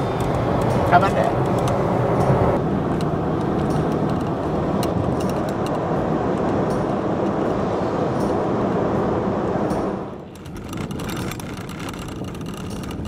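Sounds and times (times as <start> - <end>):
pickup truck driving at speed: 0.0 - 13.0.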